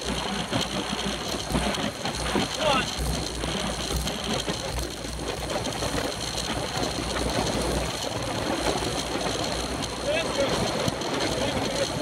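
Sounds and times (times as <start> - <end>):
bicycle chains and tyres whirring: 0.0 - 12.0
wind rumbling on microphone: 0.0 - 12.0.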